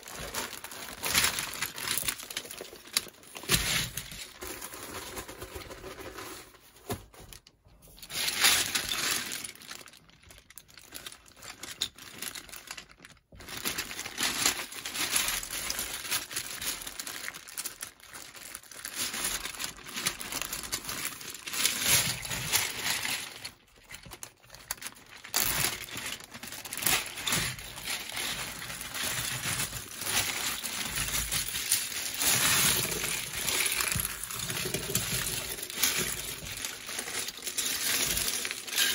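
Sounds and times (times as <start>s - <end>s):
plastic packaging crinkling: 0.0s - 38.9s.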